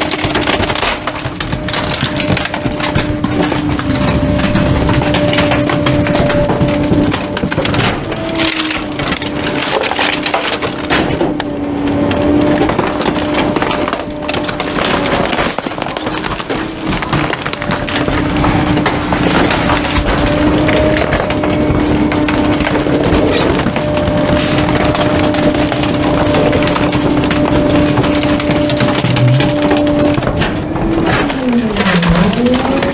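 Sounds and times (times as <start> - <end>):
garbage truck hum: 0.0 - 32.9
wooden frame cracking and splintering: 0.0 - 32.9.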